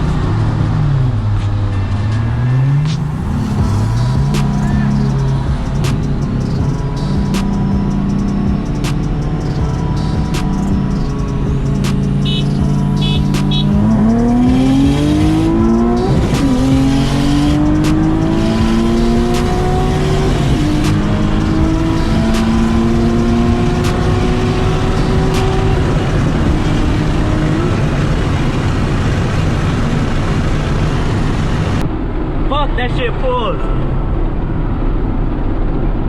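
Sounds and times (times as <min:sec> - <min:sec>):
car engine at full throttle: 0:00.0 - 0:36.0.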